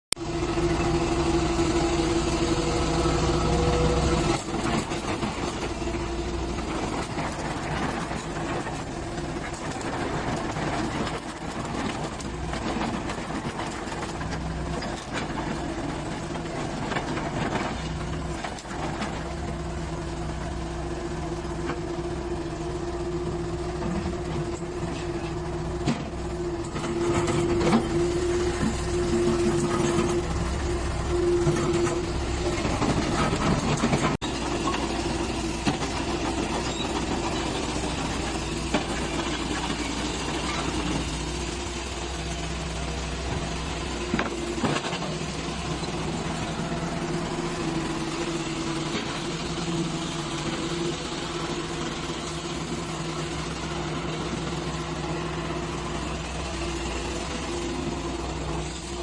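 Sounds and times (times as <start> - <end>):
excavator diesel engine running: 0.1 - 59.0.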